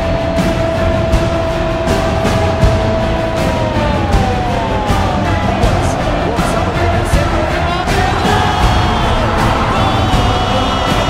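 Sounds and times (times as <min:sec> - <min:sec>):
music with held note and heavy beat: 0:00.0 - 0:11.0.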